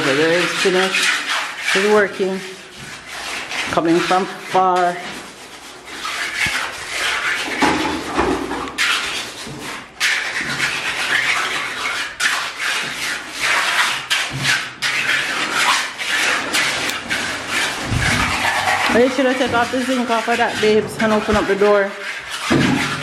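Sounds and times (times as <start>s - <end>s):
hand tool scraping wet concrete: 0.0s - 23.0s.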